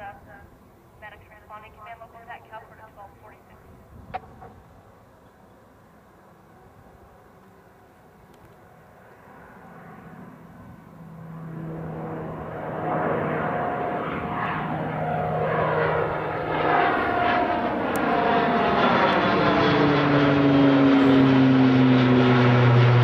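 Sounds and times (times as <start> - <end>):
turboprop aircraft engines: 0.0 - 23.0.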